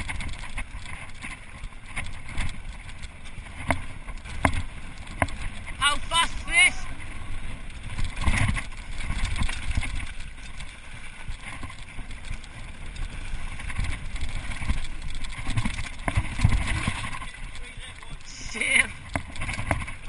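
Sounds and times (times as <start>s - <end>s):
bike rattling over bumps: 0.0s - 20.0s
bike tyres on gravel: 0.0s - 20.0s
wind buffeting microphone: 0.0s - 20.0s.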